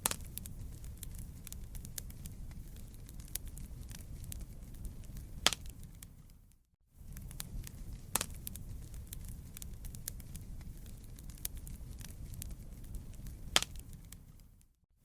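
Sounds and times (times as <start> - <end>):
campfire crackles and pops: 0.0 - 14.7
low rumble of flames: 0.0 - 14.8.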